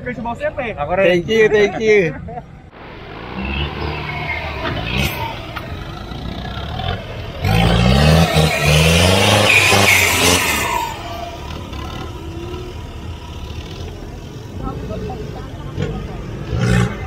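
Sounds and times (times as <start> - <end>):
engine revving hard: 2.8 - 17.0.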